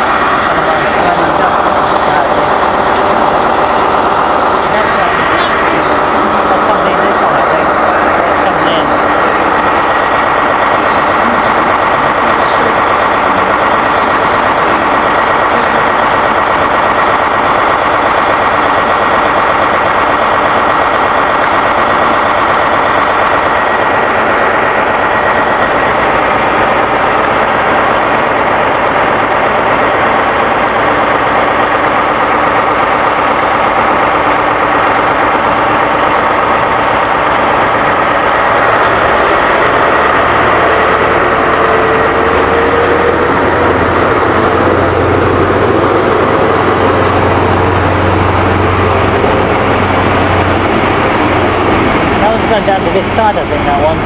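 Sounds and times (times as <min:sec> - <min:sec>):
diesel train engine running: 0:00.0 - 0:54.0.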